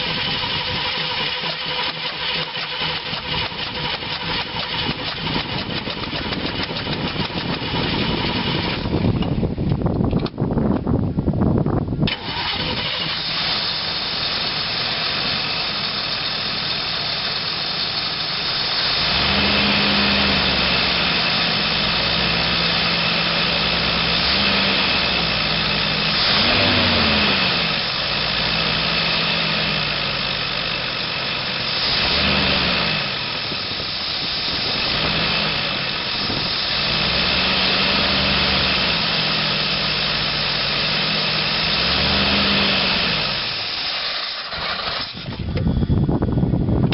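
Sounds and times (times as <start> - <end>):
engine idling and revving: 0.0 - 10.9, 11.5 - 46.9.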